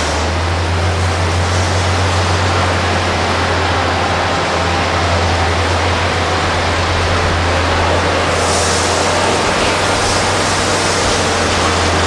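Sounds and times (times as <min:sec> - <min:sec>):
diesel engines rumbling: 0:00.0 - 0:12.0
heavy even hiss: 0:00.0 - 0:12.0.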